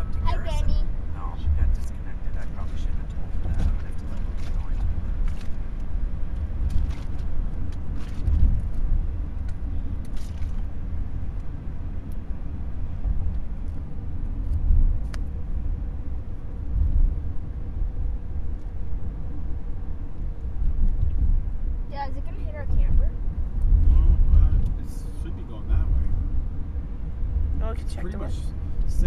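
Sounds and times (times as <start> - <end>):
car driving rumble: 0.0 - 29.0
road and wind noise: 0.0 - 29.0.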